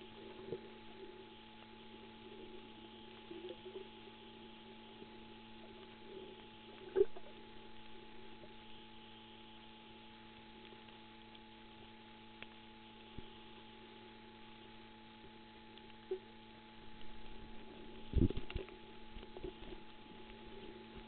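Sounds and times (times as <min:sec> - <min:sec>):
faint underwater hum: 0:00.0 - 0:21.0.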